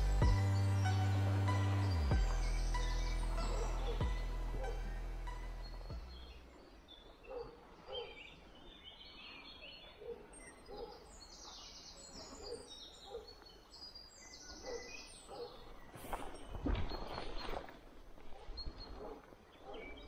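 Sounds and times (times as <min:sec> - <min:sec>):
small birds chirping high: 0:00.0 - 0:17.2.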